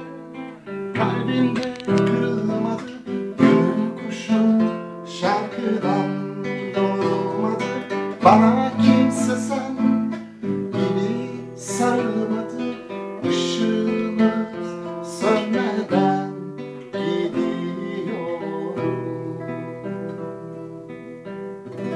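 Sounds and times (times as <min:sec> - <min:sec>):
acoustic guitar strummed and picked: 0:00.0 - 0:21.9.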